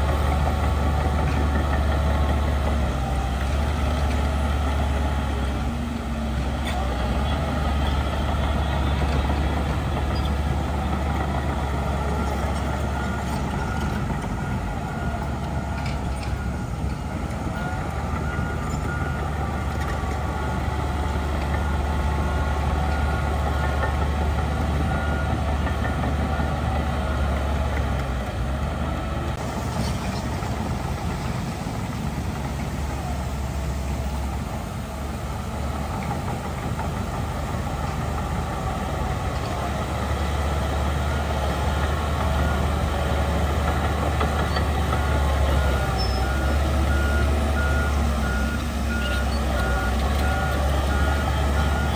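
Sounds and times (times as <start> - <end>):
diesel earthmoving machinery rumble: 0.0 - 51.9.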